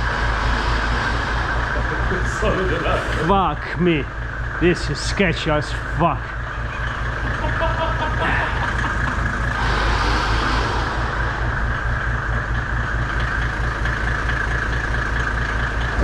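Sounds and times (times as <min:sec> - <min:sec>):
winch motor droning: 0:00.0 - 0:16.0.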